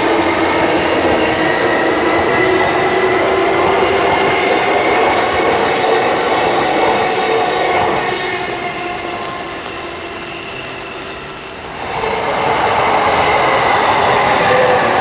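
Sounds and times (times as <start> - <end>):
electric train motors whining: 0.0 - 15.0.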